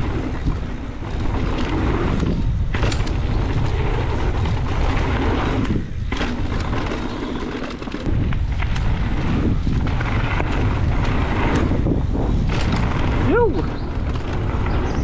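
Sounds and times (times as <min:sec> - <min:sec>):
bike knocks and rattles: 0:00.0 - 0:15.0
tyre noise on dirt: 0:00.0 - 0:15.0
wind buffeting microphone: 0:00.0 - 0:15.0.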